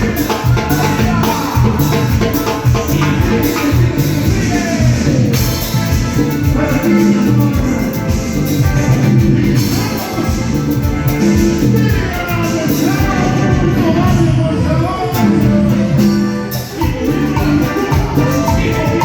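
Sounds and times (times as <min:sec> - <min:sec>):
live band playing dance music: 0:00.0 - 0:19.0.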